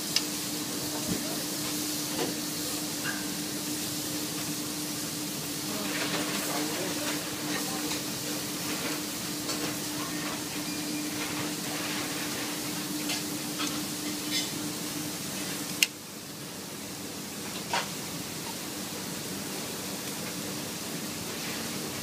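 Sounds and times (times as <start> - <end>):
steaks sizzling on a grill: 0.0 - 22.0.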